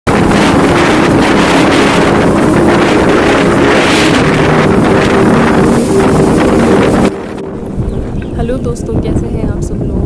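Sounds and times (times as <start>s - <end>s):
strong wind buffeting microphone: 0.1s - 10.0s.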